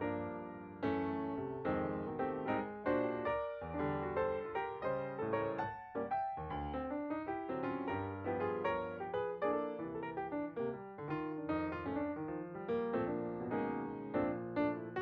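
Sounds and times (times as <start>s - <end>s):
piano melody with chords: 0.0s - 15.0s.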